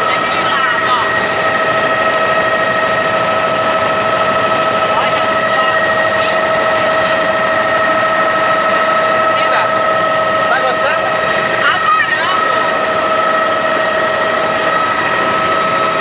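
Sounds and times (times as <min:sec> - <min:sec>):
engine and rotor drone: 0:00.0 - 0:16.0
helicopter turbine whine: 0:00.0 - 0:16.0.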